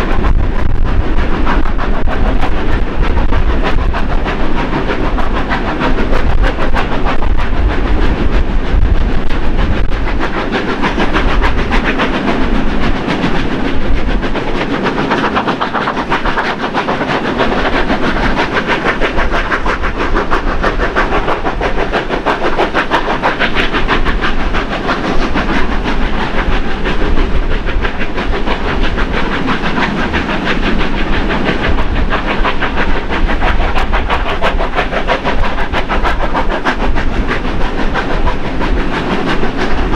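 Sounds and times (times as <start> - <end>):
steam locomotive exhaust beats: 0.0 - 39.9
train wheels clattering on rails: 0.0 - 39.9.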